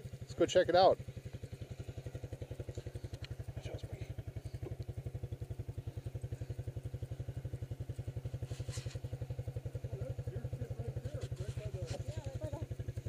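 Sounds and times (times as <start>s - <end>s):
small engine chugging: 0.0s - 13.0s.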